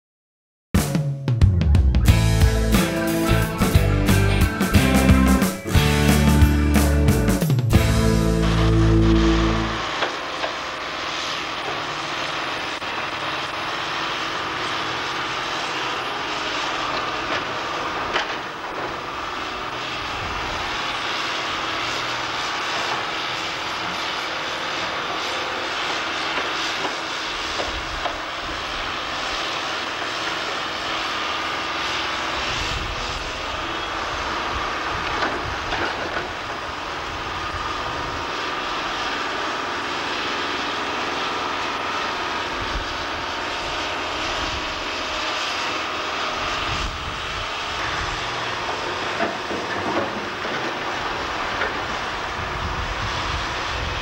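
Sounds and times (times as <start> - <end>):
excavator engine running: 1.4 - 54.0.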